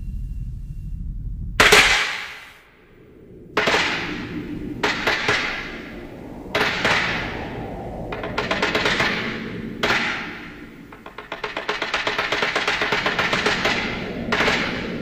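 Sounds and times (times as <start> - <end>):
dramatic crashing hits: 1.6 - 15.0.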